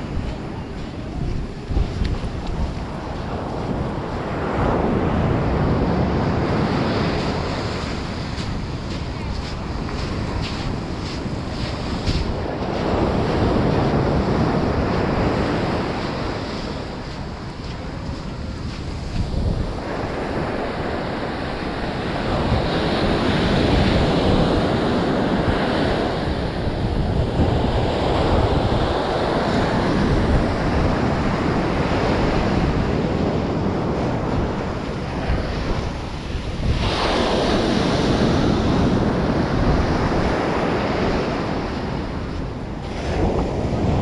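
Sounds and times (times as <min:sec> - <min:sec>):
ocean surf on beach: 0:00.0 - 0:44.0
wind buffeting microphone: 0:00.0 - 0:44.0.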